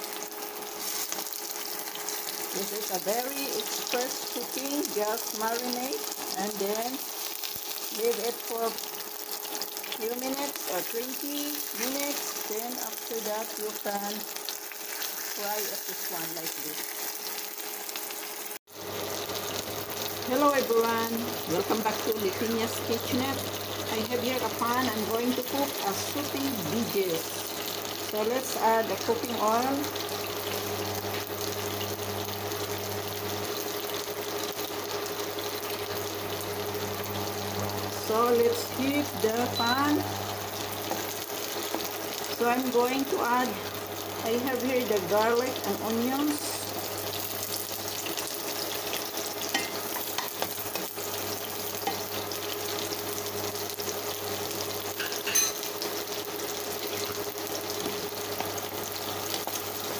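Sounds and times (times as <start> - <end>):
garlic and onion sizzling in oil: 0.0 - 59.9.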